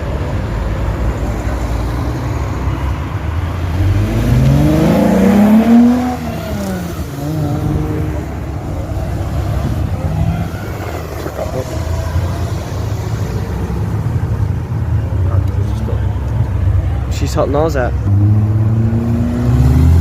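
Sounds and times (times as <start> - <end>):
car engine accelerating hard: 1.4 - 17.1, 17.7 - 20.0.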